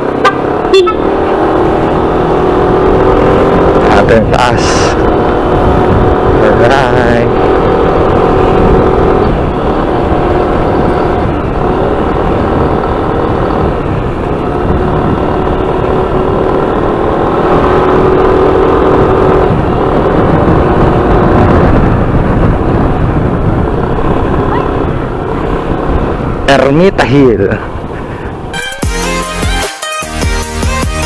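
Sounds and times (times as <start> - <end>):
scooter engine running: 0.0 - 6.4, 7.2 - 26.4
wind rumble on microphone: 0.0 - 28.6.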